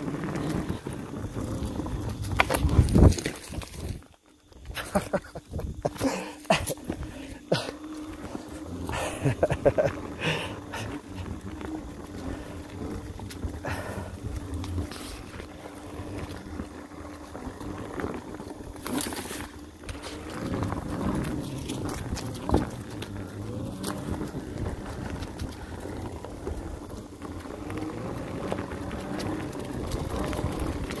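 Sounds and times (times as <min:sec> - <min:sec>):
bike tyres rolling over dirt: 0:00.0 - 0:31.0
wind rumble on microphone: 0:00.0 - 0:31.0.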